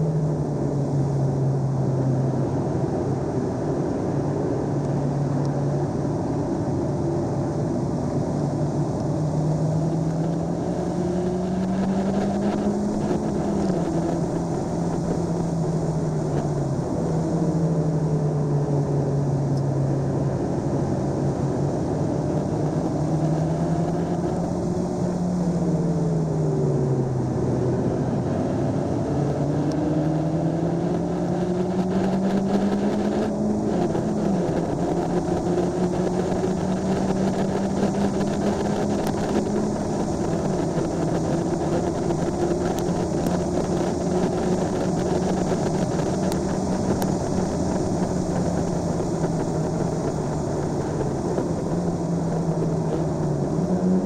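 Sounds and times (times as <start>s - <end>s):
car engine from inside cabin: 0.0s - 54.0s
road and wind noise: 0.0s - 54.0s.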